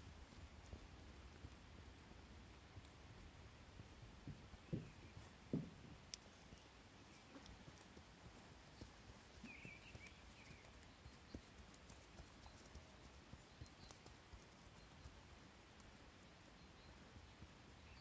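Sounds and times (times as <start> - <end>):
horse hoofbeats on grass: 0.0 - 18.0.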